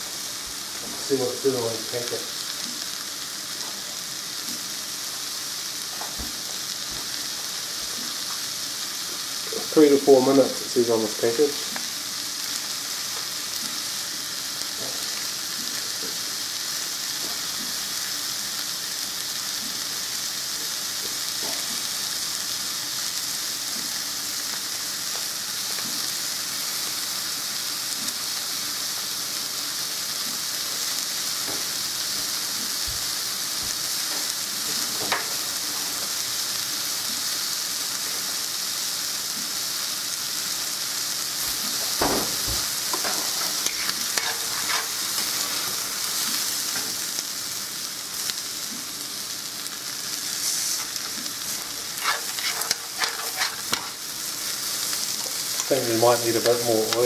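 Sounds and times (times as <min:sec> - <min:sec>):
rice and chicken sizzling: 0:00.0 - 0:57.0.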